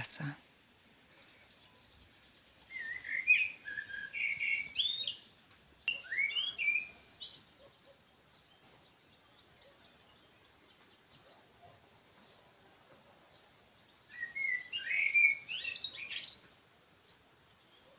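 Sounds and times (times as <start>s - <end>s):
songbird chirping: 0.0s - 17.9s.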